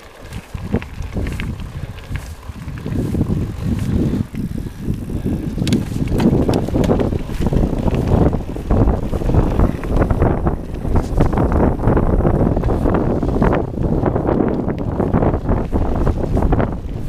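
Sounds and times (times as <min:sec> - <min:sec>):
bike rattling and knocking: 0:00.0 - 0:17.0
tyres crunching over gravel: 0:00.0 - 0:17.0
wind rumbling on microphone: 0:00.0 - 0:17.0.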